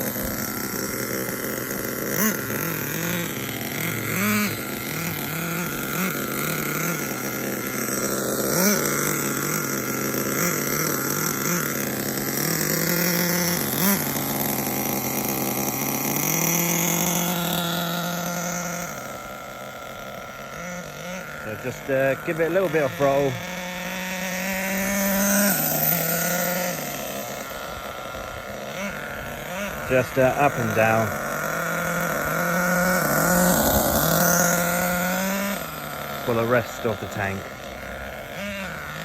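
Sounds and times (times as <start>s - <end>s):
model engine idling: 0.0s - 39.0s.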